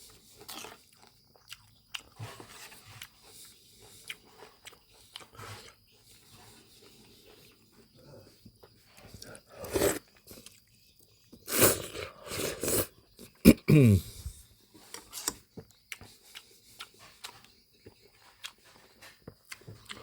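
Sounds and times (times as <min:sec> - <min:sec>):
chewing and biting: 0:00.1 - 0:07.7, 0:08.6 - 0:13.4, 0:14.8 - 0:20.0.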